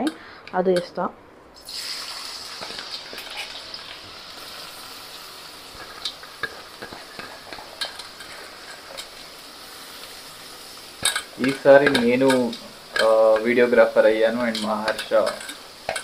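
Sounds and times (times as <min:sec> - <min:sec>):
onions sizzling in hot oil: 0:01.6 - 0:16.0.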